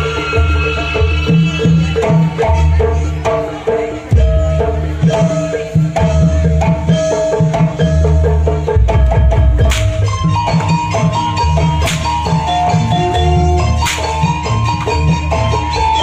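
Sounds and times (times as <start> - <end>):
hand drums beating: 0.0 - 16.0
pitched percussion melody: 0.0 - 16.0.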